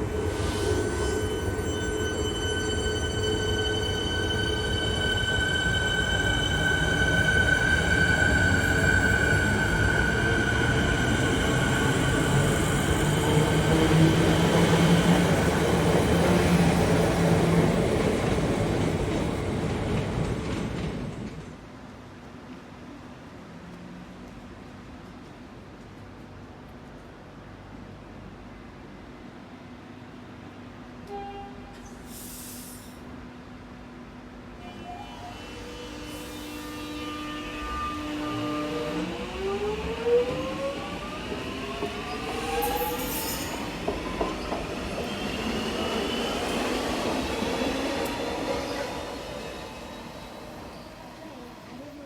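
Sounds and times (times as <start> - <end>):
train running on track: 0.0 - 52.0.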